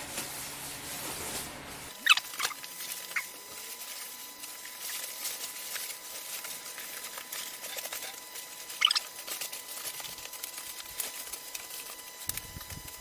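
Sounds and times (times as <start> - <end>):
insulation sheet crinkling: 0.0 - 13.0.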